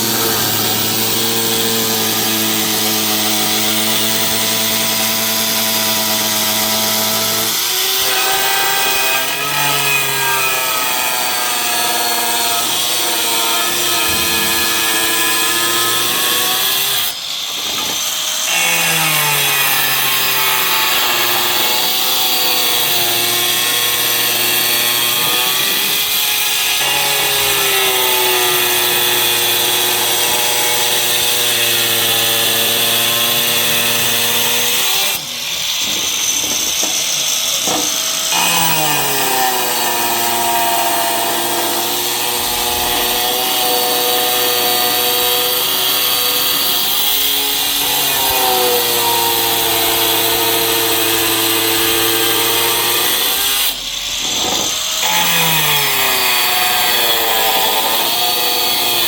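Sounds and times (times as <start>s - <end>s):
electric power tool cutting: 0.0s - 59.0s.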